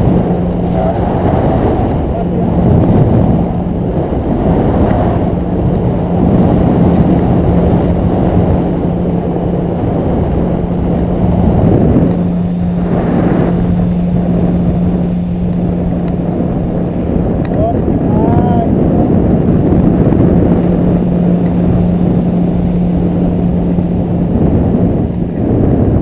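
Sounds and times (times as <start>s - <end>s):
paramotor engine and propeller: 0.0s - 26.0s
wind buffeting on microphone: 0.0s - 26.0s.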